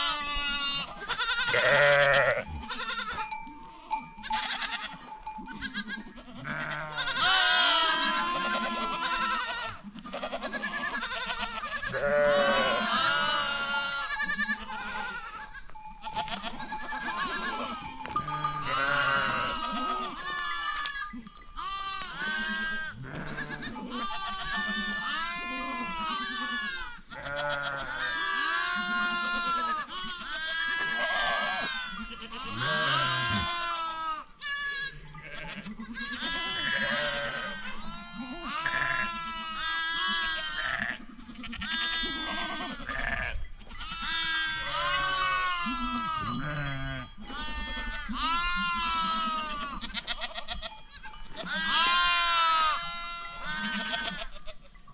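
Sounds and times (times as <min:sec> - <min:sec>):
goats and sheep bleating: 0:00.0 - 0:54.9.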